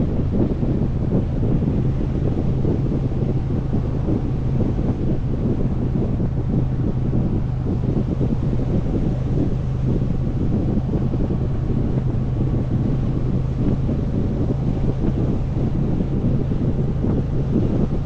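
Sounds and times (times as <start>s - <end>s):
motorcycle engine cruising: 0.0s - 18.0s
wind buffeting microphone: 0.0s - 18.0s.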